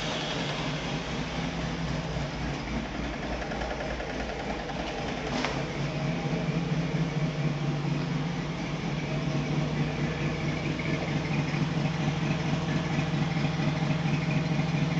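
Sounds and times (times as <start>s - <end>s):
engine idling with a misfire: 0.0s - 14.9s.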